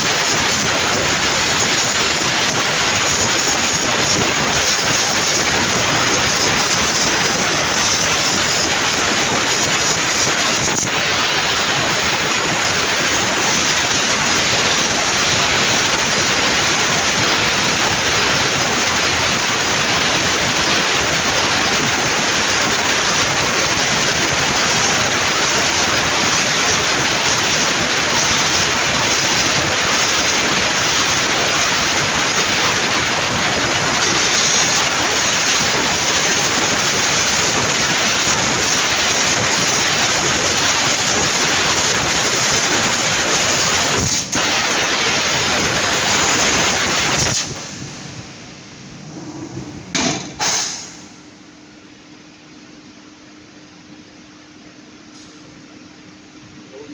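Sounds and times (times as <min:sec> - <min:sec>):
laser cutter hissing: 0:00.0 - 0:51.2.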